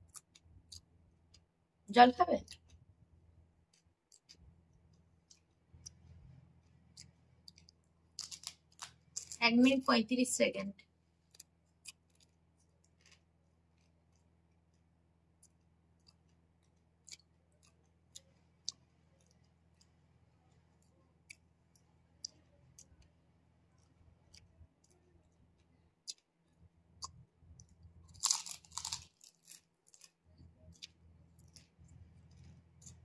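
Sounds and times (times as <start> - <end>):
person chewing crunchy food: 0.0 - 1.5, 3.6 - 9.4, 11.3 - 23.1, 23.8 - 33.0.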